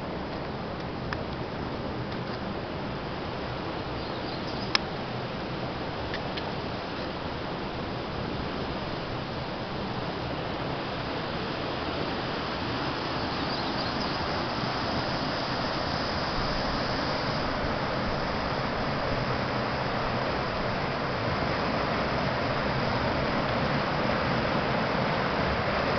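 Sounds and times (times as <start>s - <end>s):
water rushing over rocks: 4.8s - 25.9s.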